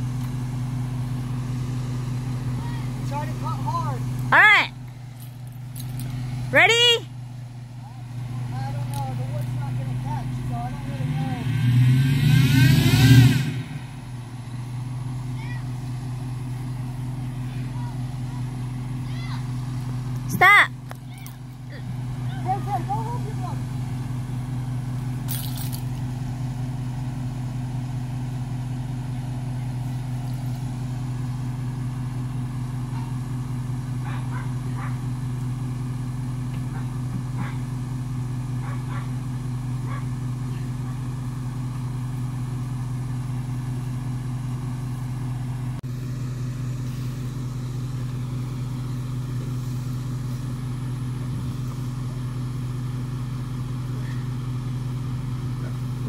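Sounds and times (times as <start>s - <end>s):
truck engine idling: 0.0s - 12.2s, 13.3s - 56.0s.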